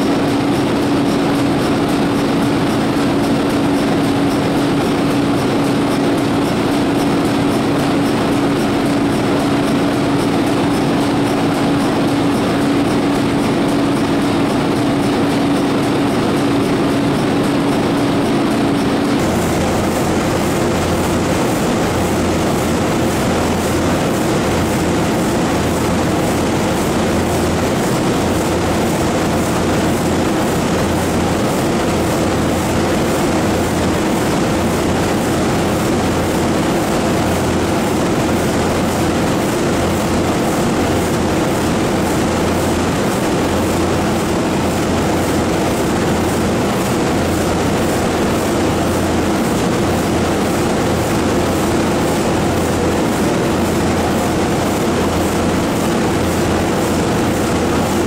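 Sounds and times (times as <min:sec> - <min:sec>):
marine diesel engine clatter: 0:00.0 - 0:58.0.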